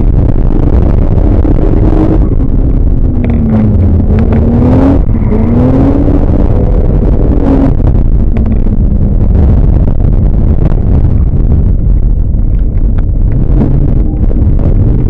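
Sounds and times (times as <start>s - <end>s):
racing truck engine: 0.0s - 15.0s
wind buffeting microphone: 0.0s - 15.0s.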